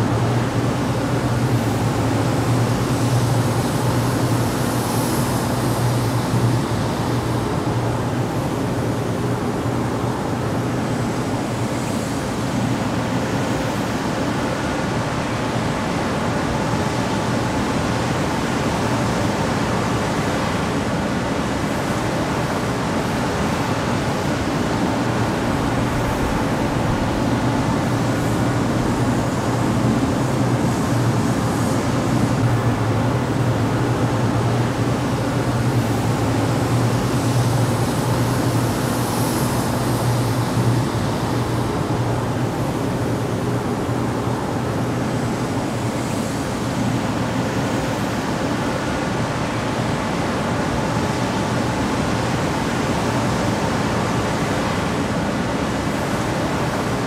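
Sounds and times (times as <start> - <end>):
exhaust fan air rush: 0.0 - 57.0.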